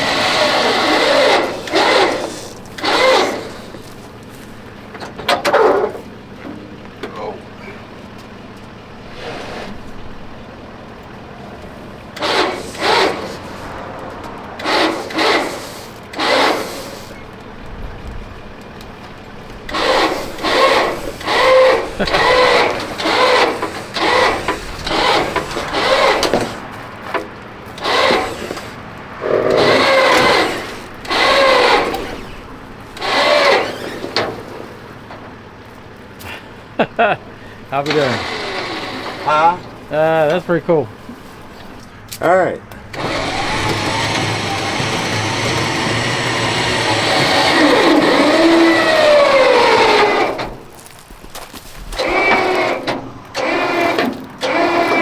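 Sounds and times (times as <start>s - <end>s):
short pitched creaks and squeals: 0.0s - 6.0s, 9.0s - 17.5s, 19.6s - 55.0s.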